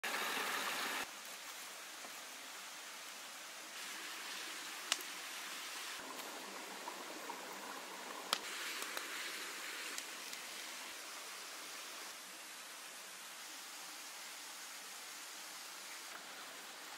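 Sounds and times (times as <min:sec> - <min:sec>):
steady rushing hiss: 0:00.0 - 0:16.9.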